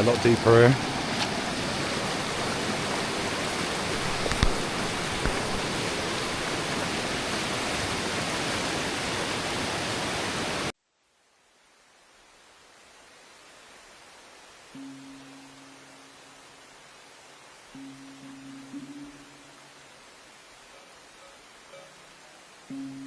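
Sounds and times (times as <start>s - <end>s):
river water rushing: 0.0s - 10.7s, 12.4s - 23.0s.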